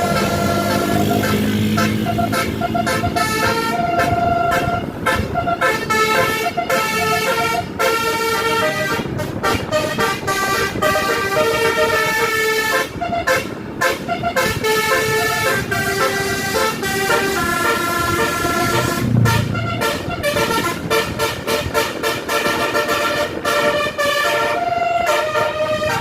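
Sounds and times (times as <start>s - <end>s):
bus horn playing melody: 0.0s - 26.0s.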